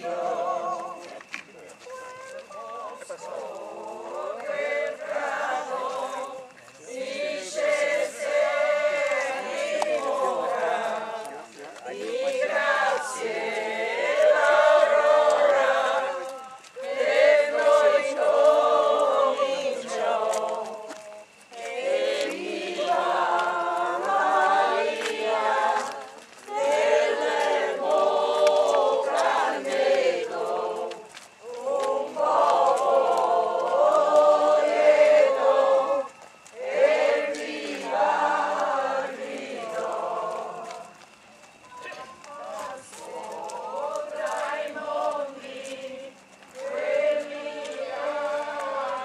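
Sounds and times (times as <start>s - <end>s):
crowd singing: 0.0s - 49.0s.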